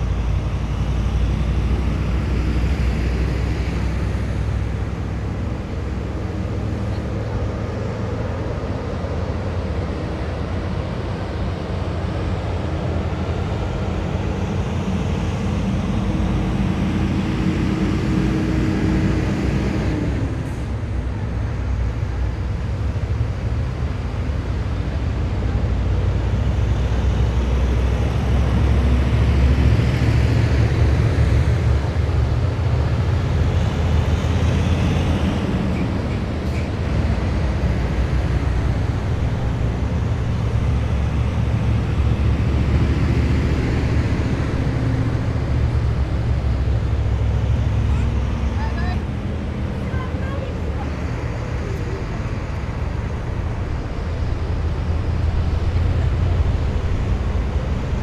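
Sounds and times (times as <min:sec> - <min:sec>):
heavy vehicles driving past: 0:00.0 - 0:58.0.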